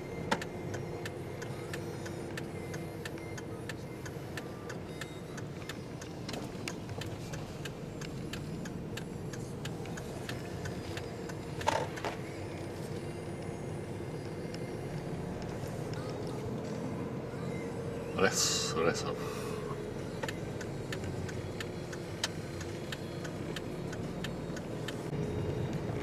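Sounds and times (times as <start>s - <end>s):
car engine hum and road noise: 0.0s - 26.0s
turn signal ticking: 0.0s - 26.0s.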